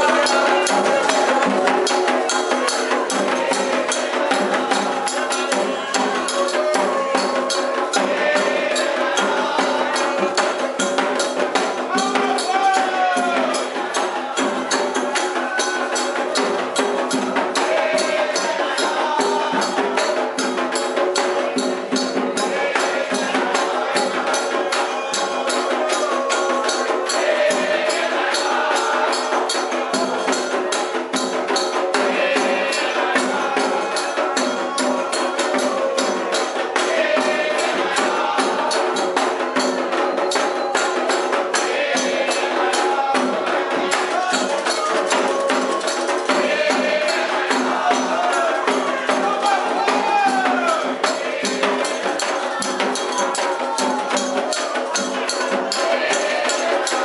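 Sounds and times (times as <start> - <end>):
fast percussion strokes: 0.0 - 57.0
people singing: 0.0 - 57.0.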